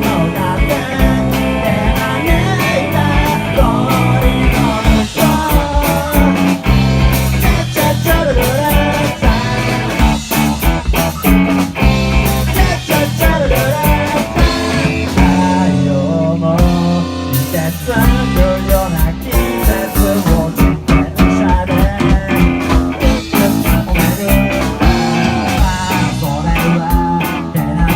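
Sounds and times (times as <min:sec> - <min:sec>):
bending lead guitar line: 0:00.0 - 0:27.9
rock band playing live: 0:00.0 - 0:27.9.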